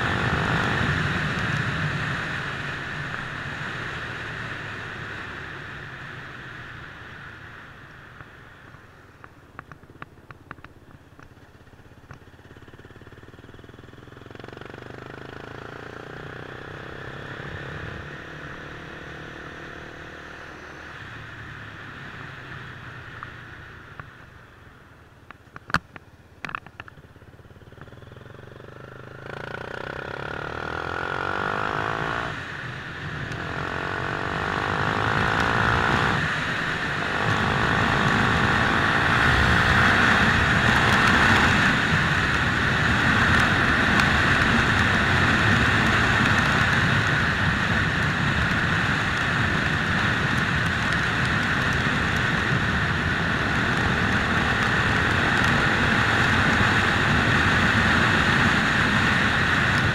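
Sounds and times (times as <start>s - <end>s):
motorcycle engine running: 0.0s - 24.2s, 25.2s - 59.9s.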